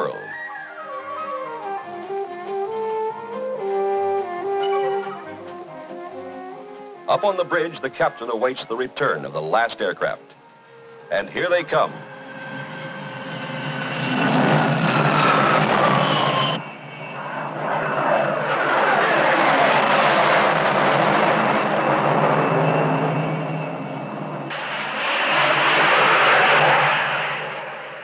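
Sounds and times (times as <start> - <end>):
jet aircraft roar passing: 0.0 - 28.0
jet engine whine: 0.0 - 28.0.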